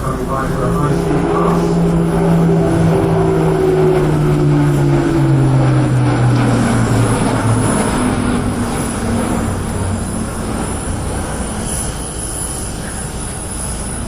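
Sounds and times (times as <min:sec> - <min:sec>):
turboprop aircraft flying past: 0:00.0 - 0:14.0.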